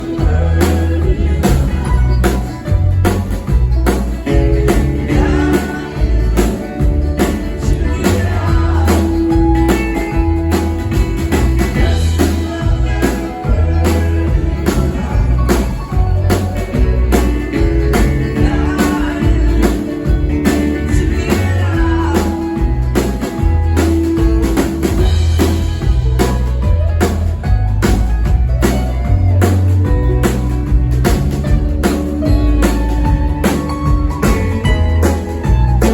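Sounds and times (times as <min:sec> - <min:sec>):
live band playing: 0:00.0 - 0:35.9
steady drumbeat: 0:00.0 - 0:35.9
strong bass line: 0:00.0 - 0:35.9.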